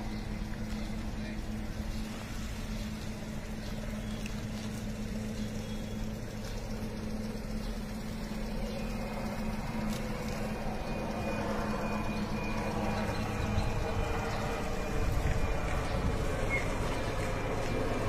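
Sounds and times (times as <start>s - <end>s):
car engine running at low speed: 0.0s - 18.0s.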